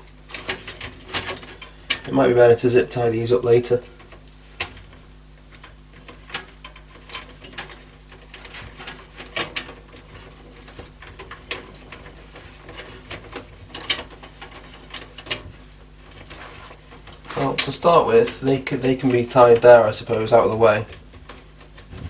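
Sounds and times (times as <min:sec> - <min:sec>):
cables clicking against pc case: 0:00.0 - 0:02.2, 0:03.7 - 0:22.0.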